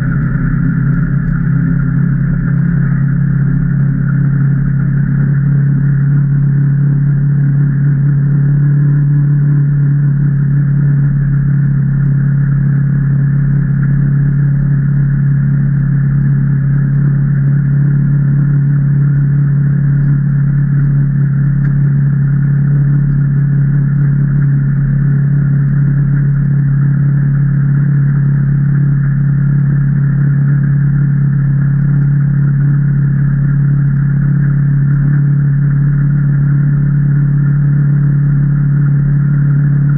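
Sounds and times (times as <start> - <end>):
engine running while driving: 0.0 - 39.9.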